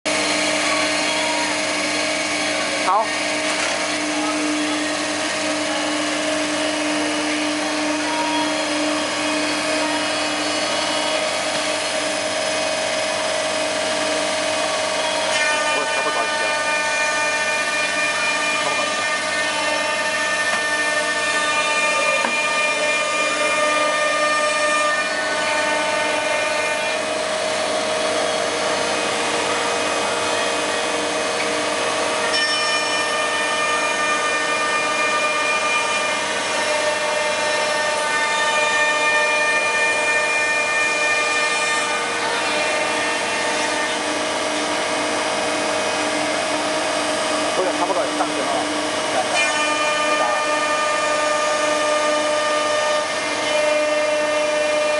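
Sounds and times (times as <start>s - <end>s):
cnc router spindles whining: 0.1s - 54.9s
wood routing rushing noise: 0.1s - 54.9s.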